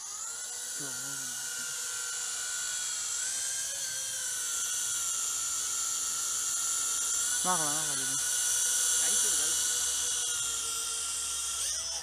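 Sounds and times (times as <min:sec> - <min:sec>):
toy quadcopter propellers whining: 0:00.0 - 0:12.0.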